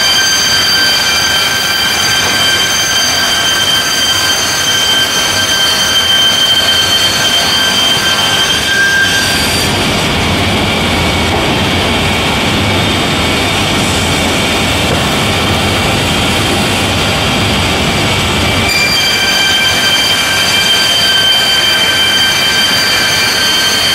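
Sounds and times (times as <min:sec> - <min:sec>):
high machine whine: 0:00.0 - 0:23.9
loud steady machine noise: 0:00.0 - 0:23.9.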